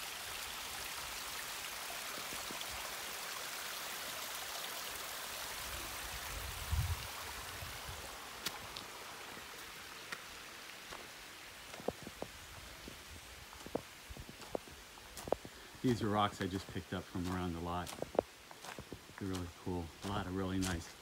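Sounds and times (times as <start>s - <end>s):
stream trickling over rocks: 0.0s - 21.0s.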